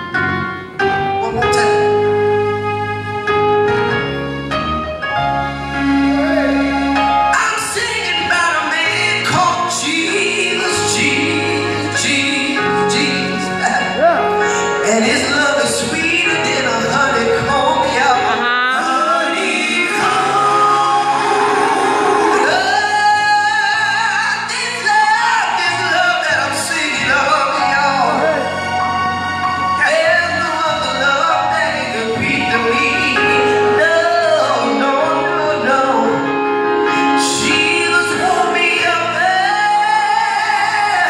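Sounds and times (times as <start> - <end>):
instrumental backing: 0.0 - 41.0
man singing gospel through pa: 6.1 - 41.0.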